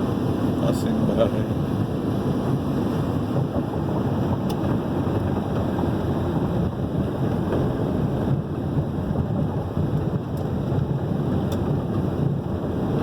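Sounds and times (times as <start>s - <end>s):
road and traffic noise: 0.0s - 13.0s
wind buffeting microphone: 0.0s - 13.0s.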